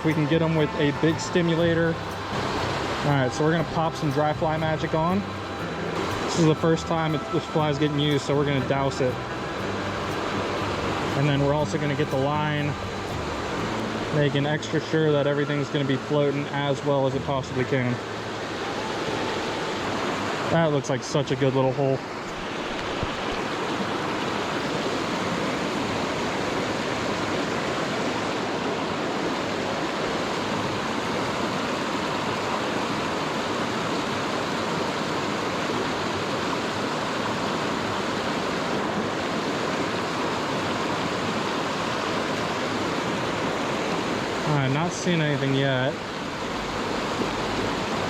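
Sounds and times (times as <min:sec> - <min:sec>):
creek water rushing: 0:00.0 - 0:48.0.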